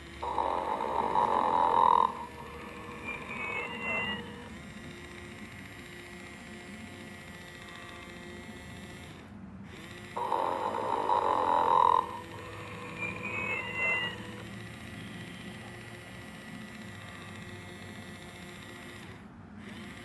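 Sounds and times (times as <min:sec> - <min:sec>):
faint steady hum: 0:00.0 - 0:20.0
toy snore through small speaker: 0:00.0 - 0:20.0.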